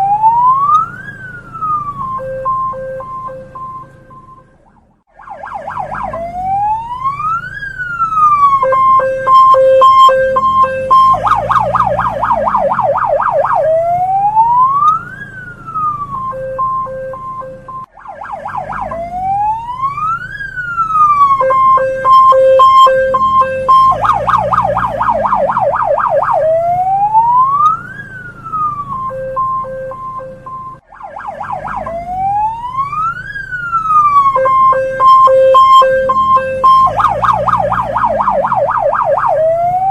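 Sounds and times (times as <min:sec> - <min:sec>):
police car siren: 0:00.0 - 0:39.9.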